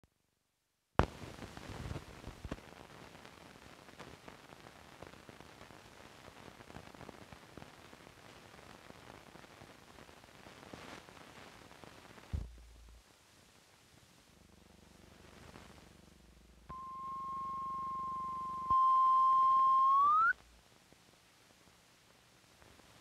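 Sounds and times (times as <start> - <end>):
film soundtrack hiss and crackle: 0.8 - 23.0.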